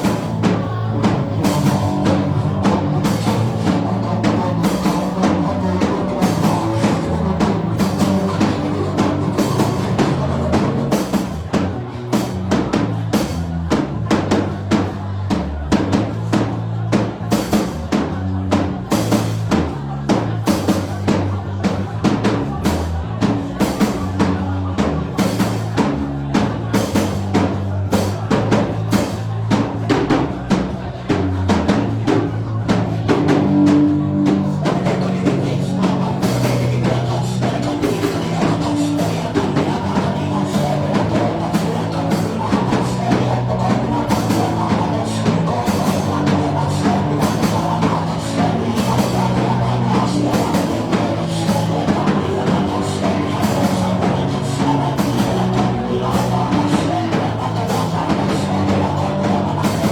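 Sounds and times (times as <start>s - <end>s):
band music: 0.0s - 59.9s
drum kit beat: 0.0s - 59.9s.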